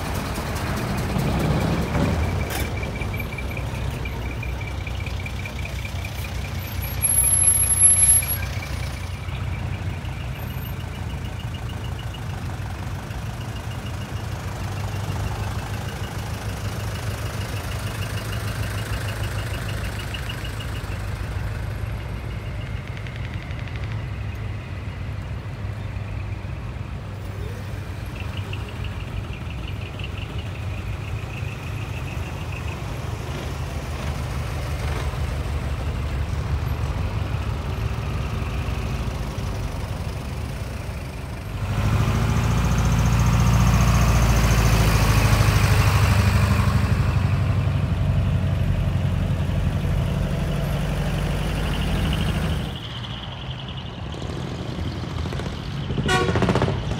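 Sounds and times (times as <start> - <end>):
heavy truck diesel engine passing: 0.0 - 56.9
trucks and cars passing: 0.0 - 56.9.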